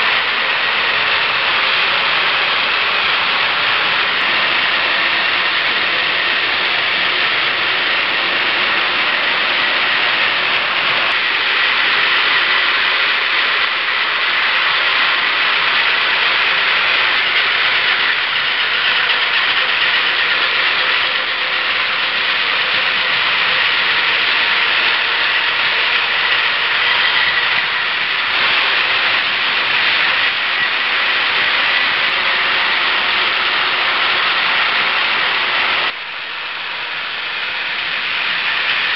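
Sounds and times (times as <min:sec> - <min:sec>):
toy trains whirring on plastic track: 0:00.0 - 0:38.9.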